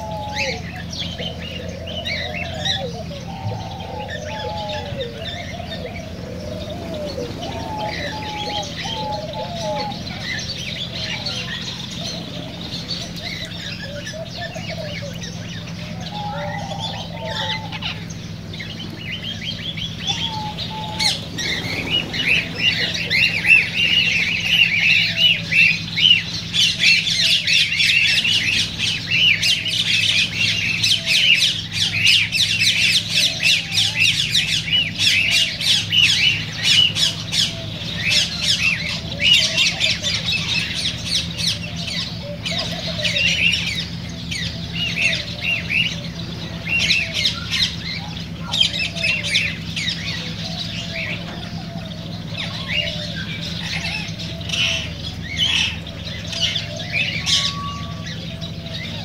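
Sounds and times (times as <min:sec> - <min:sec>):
birds squawking and chirping: 0:00.0 - 0:59.0
steady low hum: 0:00.0 - 0:59.0.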